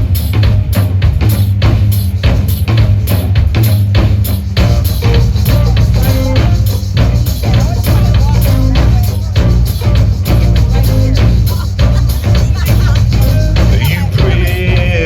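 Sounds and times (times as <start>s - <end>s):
blues band playing: 0.0s - 15.0s
drum kit beat: 0.0s - 15.0s.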